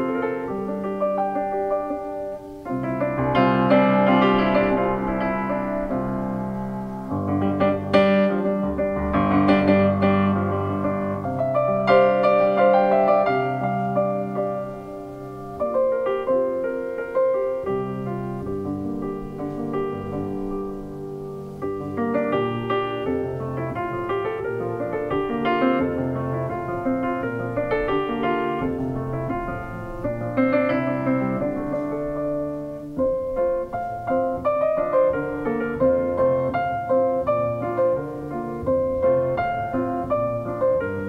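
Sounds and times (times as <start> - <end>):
solo grand piano: 0.0 - 41.0.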